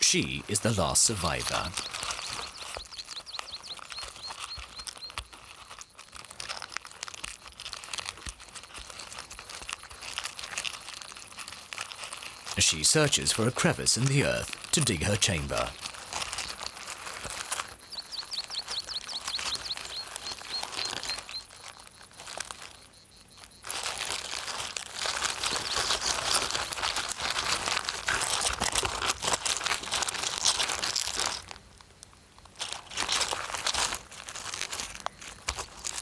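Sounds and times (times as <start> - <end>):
crackling and crunching of earth: 0.0 - 36.0.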